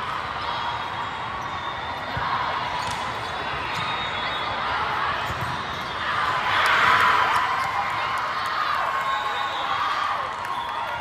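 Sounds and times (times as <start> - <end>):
crowd shouting and cheering: 0.0 - 11.0.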